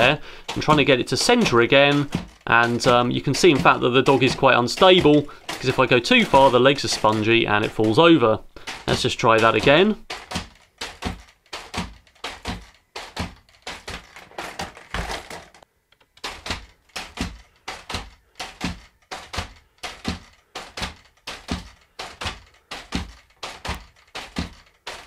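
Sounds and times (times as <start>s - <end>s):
robot dog feet knocking: 0.0s - 15.6s, 16.2s - 25.0s.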